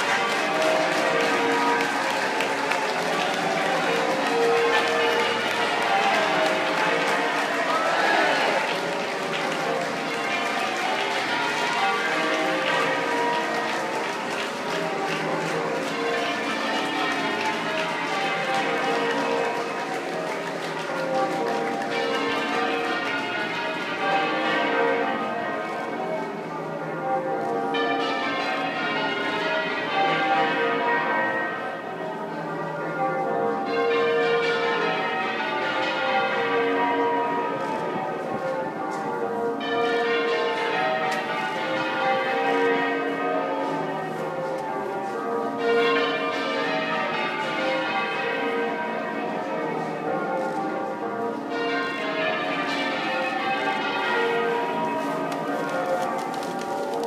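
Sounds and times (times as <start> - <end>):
half-muffled church bells ringing: 0.0 - 57.0.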